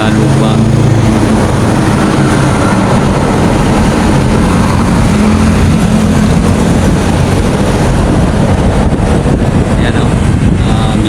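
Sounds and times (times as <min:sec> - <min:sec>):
drill rig engine rumbling: 0:00.0 - 0:11.0.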